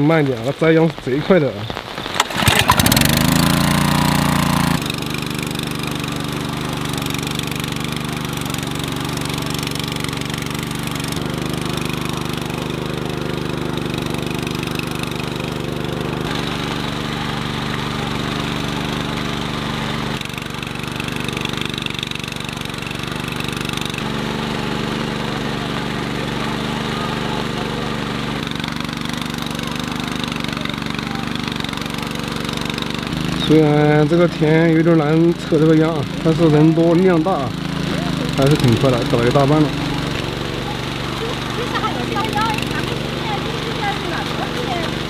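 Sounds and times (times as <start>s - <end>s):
tiller engine running: 1.9s - 45.0s
tiller churning water: 2.1s - 45.0s.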